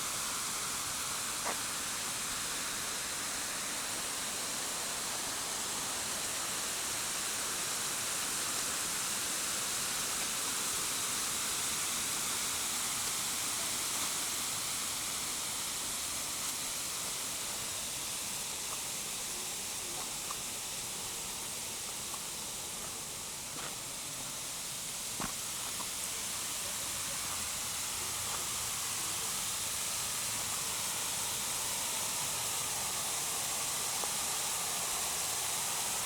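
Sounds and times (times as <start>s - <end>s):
waterfall rushing water: 0.0s - 36.0s.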